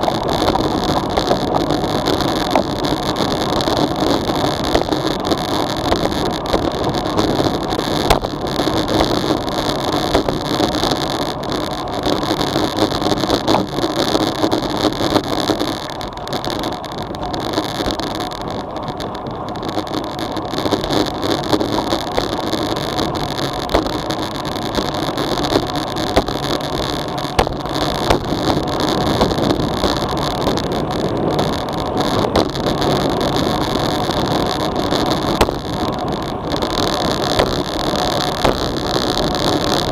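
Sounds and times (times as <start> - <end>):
bike tyre and road noise: 0.0 - 39.9
wind rushing over microphone: 0.0 - 39.9.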